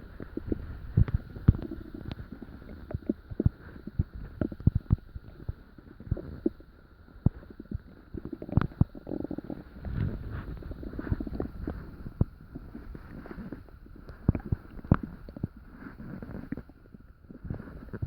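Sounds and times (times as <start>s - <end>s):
stomach gurgling: 0.0s - 18.0s.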